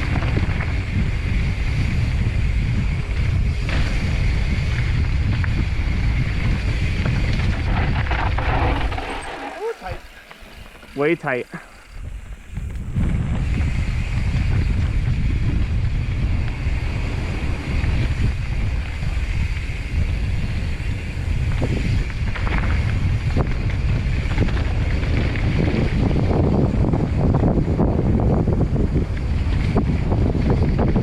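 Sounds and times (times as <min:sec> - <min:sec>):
bike rattles and knocks: 0:00.0 - 0:31.0
tyres rolling over dirt trail: 0:00.0 - 0:31.0
wind buffeting microphone: 0:00.0 - 0:31.0.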